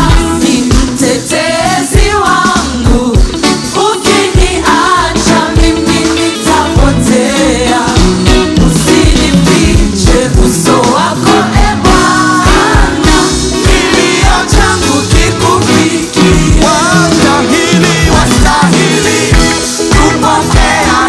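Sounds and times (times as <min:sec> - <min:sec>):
band playing: 0:00.0 - 0:21.0
person singing: 0:00.0 - 0:21.0.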